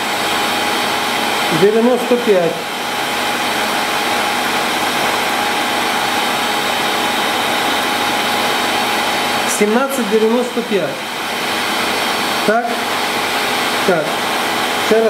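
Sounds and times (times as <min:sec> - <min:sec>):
workshop machinery whirring: 0:00.0 - 0:15.0.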